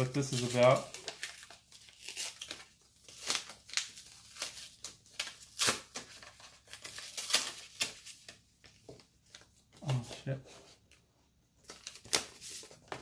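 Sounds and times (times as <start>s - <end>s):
paper rustling and crinkling: 0.0s - 11.0s, 11.6s - 13.0s.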